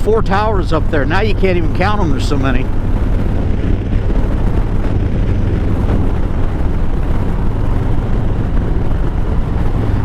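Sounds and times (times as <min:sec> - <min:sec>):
motorcycle engine rumbling: 0:00.0 - 0:10.0
wind and road noise: 0:00.0 - 0:10.0.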